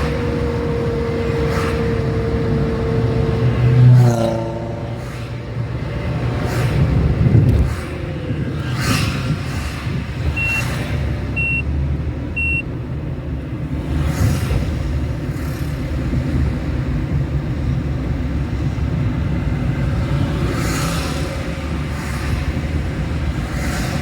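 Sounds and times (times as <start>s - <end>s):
traffic rumble: 0.0s - 24.0s
vehicles whooshing past: 0.0s - 24.0s.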